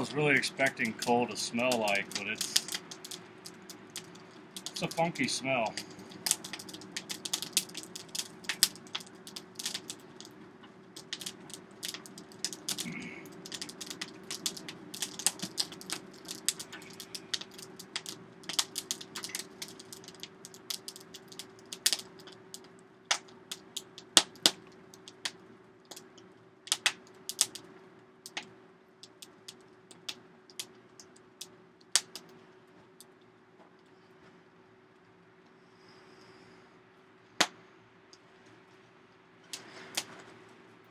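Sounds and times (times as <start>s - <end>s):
forge fire crackling and popping: 0.0s - 34.2s, 37.3s - 40.9s
steady hum: 0.0s - 38.4s.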